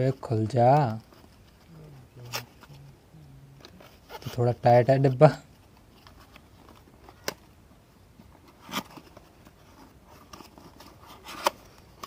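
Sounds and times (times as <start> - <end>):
cardboard rustling and scraping: 0.0 - 2.9, 3.6 - 7.3, 8.2 - 12.0.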